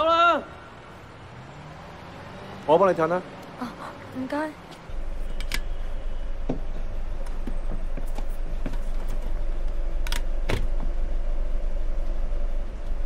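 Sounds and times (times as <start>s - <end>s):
minibus engine rumbling: 0.0s - 13.0s.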